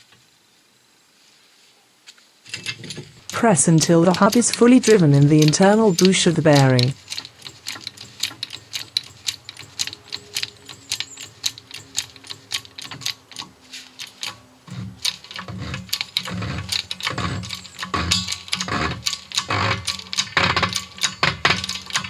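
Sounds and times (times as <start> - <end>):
hydraulic press clicking: 2.5 - 22.0.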